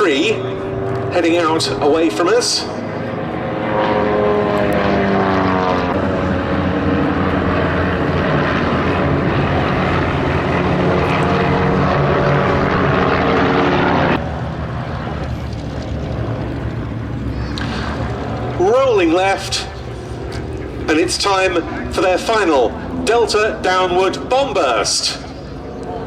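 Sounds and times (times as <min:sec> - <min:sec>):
propeller aircraft droning: 0:00.0 - 0:26.0.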